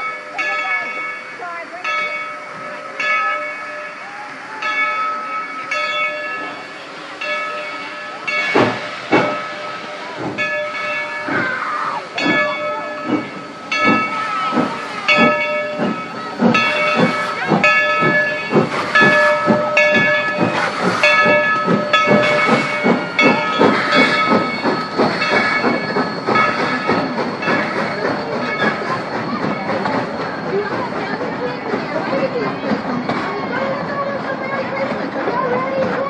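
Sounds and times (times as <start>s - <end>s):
locomotive bell ringing: 0.0s - 36.0s
steam locomotive exhaust chuffs: 0.2s - 36.0s
steam hissing: 0.9s - 36.0s.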